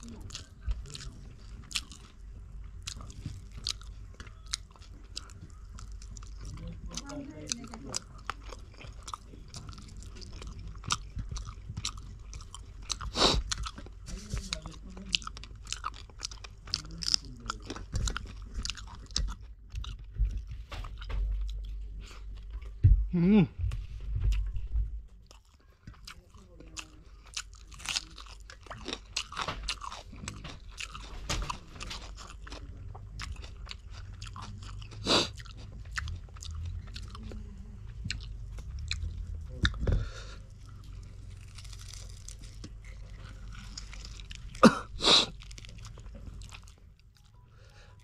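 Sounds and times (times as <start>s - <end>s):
person chewing and biting: 0.0s - 22.8s, 25.2s - 47.4s.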